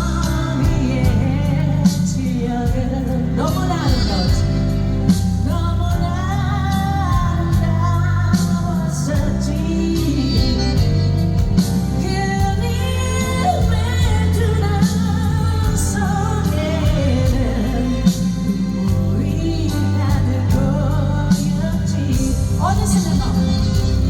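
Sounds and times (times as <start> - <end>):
live pop band over loudspeakers: 0.0 - 24.0
person singing lead vocal: 0.0 - 24.0.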